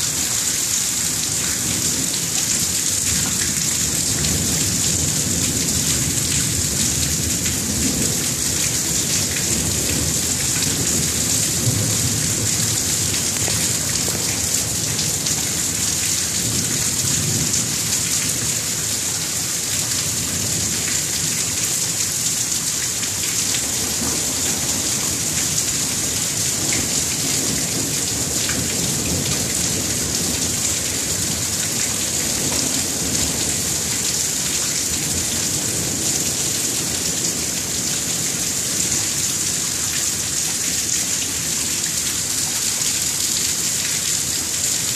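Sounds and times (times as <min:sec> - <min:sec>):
heavy rain hiss: 0:00.0 - 0:42.4.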